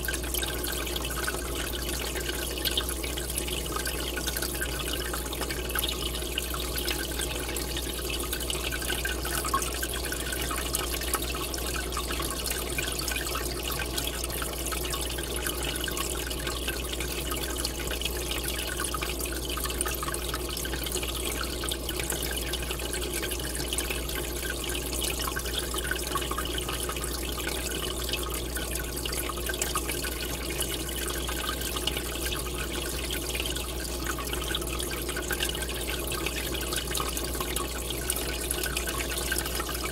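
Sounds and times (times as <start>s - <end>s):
aquarium bubbler bubbling: 0.0s - 39.9s
low steady hum: 0.0s - 39.9s.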